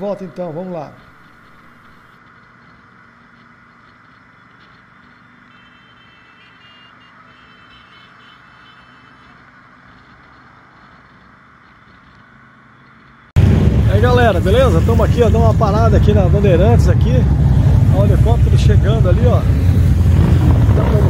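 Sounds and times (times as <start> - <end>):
motorcycles droning: 0.0 - 21.0.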